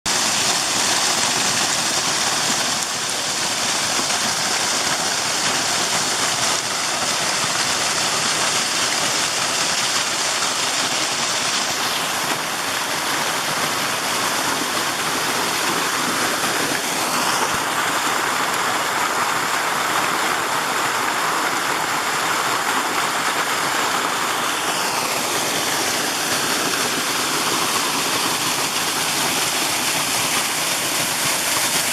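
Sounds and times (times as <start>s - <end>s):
creek water rushing: 0.0s - 31.9s.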